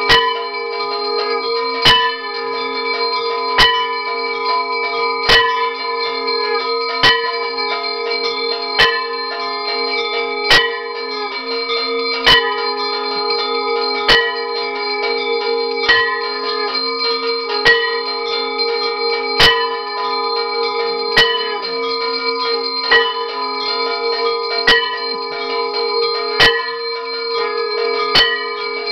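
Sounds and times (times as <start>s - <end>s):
bells ringing: 0.0s - 28.9s
sharp bell stroke: 0.0s - 28.9s.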